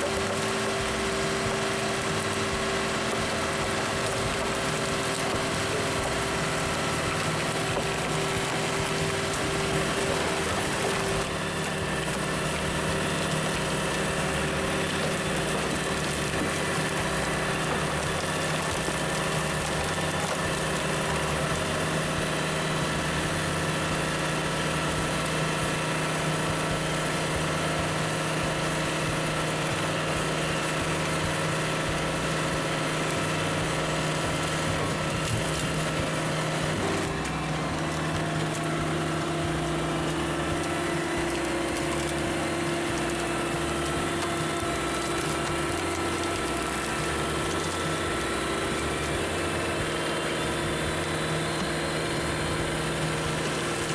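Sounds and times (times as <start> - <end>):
log splitter engine running: 0.0 - 53.9.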